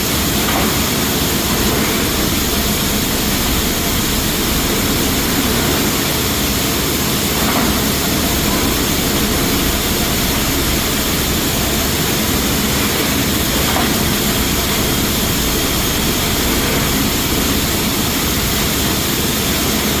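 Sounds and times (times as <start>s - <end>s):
rice mill machinery running: 0.0s - 20.0s.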